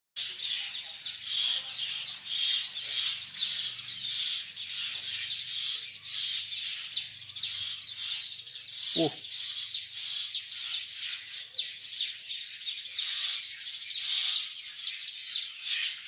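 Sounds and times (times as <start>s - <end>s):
small birds chirping rapidly: 0.2s - 16.0s.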